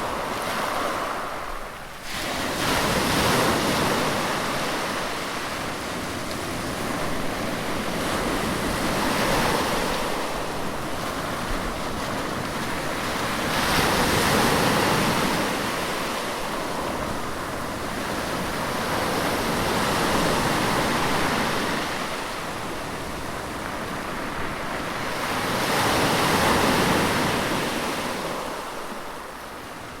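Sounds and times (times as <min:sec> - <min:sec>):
sea waves breaking on shore: 0:00.0 - 0:30.0.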